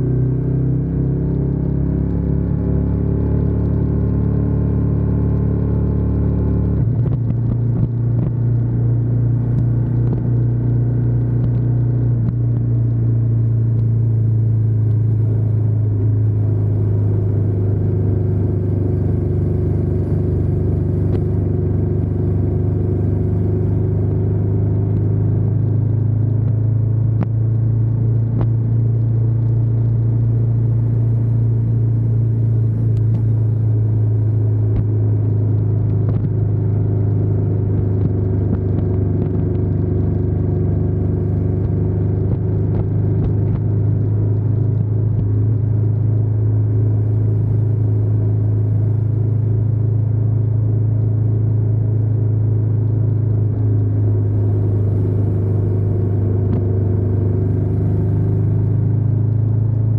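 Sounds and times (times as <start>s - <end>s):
motorcycle engine rumbling: 6.3s - 59.9s.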